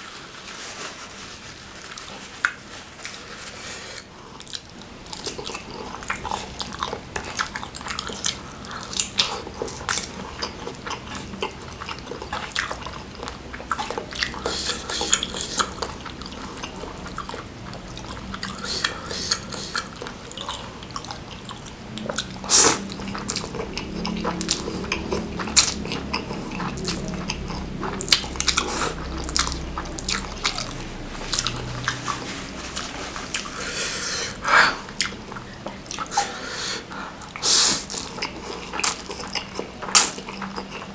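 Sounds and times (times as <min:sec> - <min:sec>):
person chewing with wet mouth clicks: 0:04.4 - 0:33.7, 0:34.3 - 0:36.2, 0:37.2 - 0:40.9.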